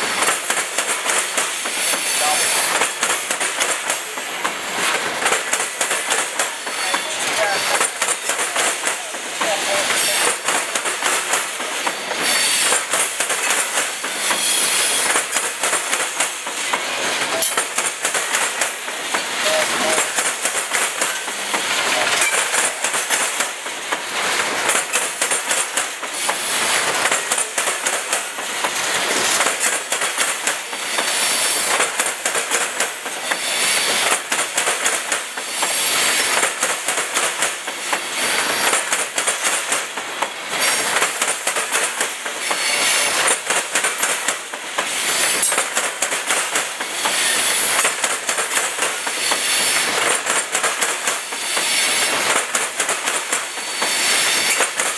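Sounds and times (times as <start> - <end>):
train wheels clattering over rail joints: 0.0 - 54.9.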